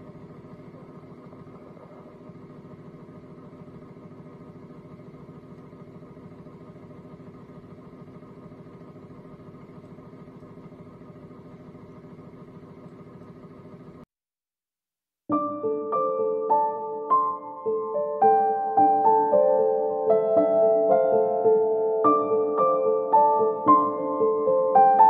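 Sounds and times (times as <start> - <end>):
machine humming with rapid flutter: 0.0 - 14.1, 15.3 - 25.0.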